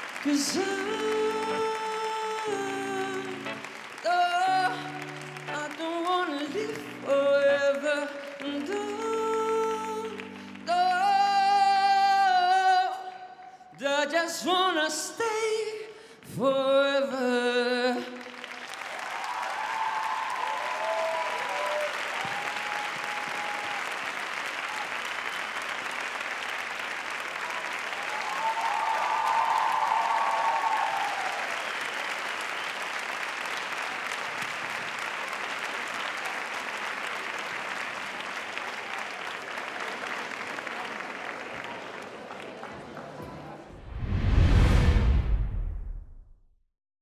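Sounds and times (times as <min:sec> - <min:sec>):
audience applauding: 0:00.0 - 0:13.2, 0:18.0 - 0:43.8.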